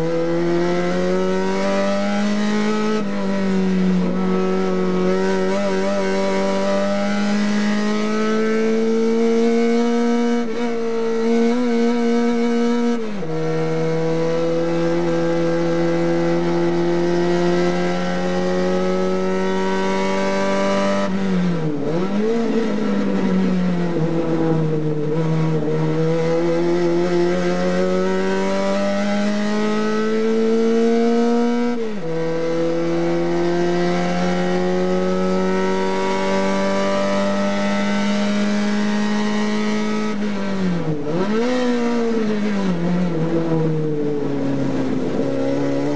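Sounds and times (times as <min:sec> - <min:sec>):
race car engine at high revs: 0:00.0 - 0:45.9.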